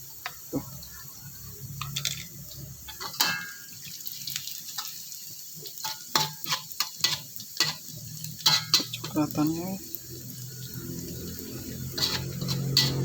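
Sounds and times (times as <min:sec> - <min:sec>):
faint sizzle: 0:00.0 - 0:13.0
oil crackling and popping: 0:00.0 - 0:13.0.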